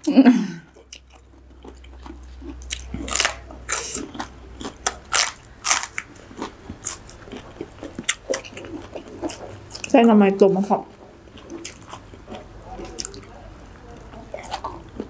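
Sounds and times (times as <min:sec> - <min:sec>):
crunching and chewing: 0:00.7 - 0:10.0, 0:10.9 - 0:15.0.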